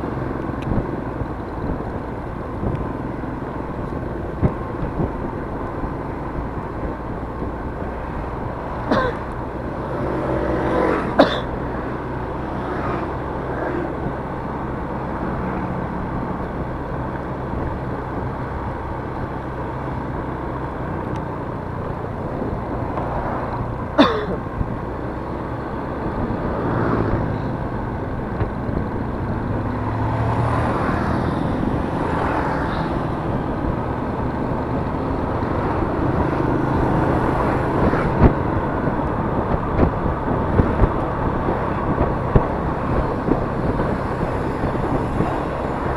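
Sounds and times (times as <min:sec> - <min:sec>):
road and wind noise: 0:00.0 - 0:45.9
scooter engine running: 0:00.0 - 0:45.9.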